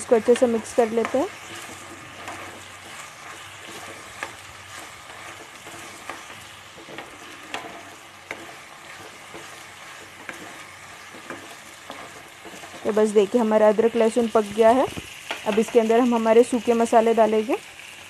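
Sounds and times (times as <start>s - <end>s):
vegetables sizzling in hot oil: 0.0s - 18.0s
steel spoon scraping a pan: 0.1s - 16.8s.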